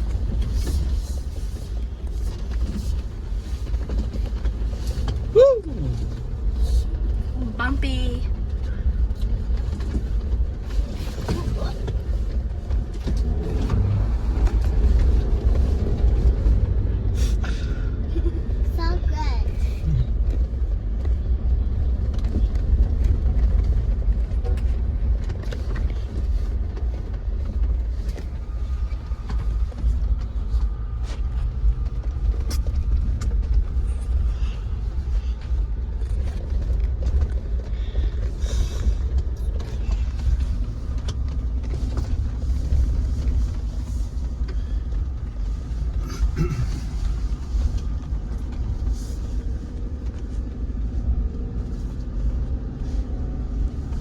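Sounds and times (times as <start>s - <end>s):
vehicle rumbling on dirt trail: 0.0s - 54.0s.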